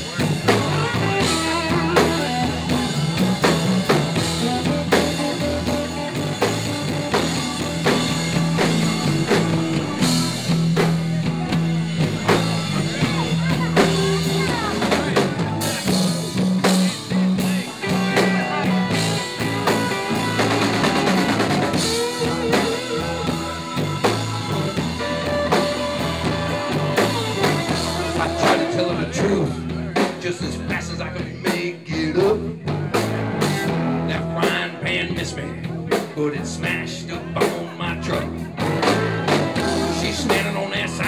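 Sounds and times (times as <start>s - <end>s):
bass line: 0.0s - 41.0s
drum kit beat: 0.0s - 41.0s
electric guitars: 0.0s - 41.0s
keyboard: 0.0s - 41.0s.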